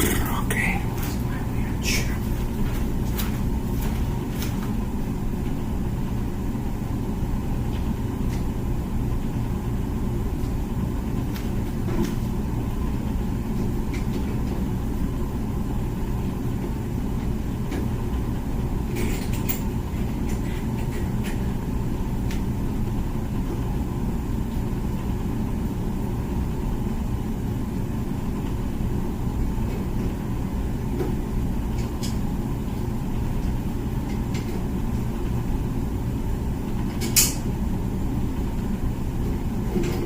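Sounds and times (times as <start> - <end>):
dishwasher humming: 0.0 - 40.0.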